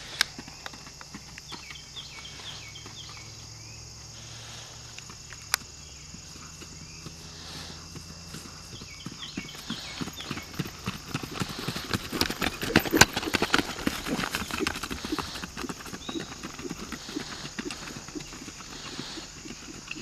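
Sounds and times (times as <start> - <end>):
horse hoofbeats on grass and dirt: 0.0 - 3.6, 5.0 - 20.0.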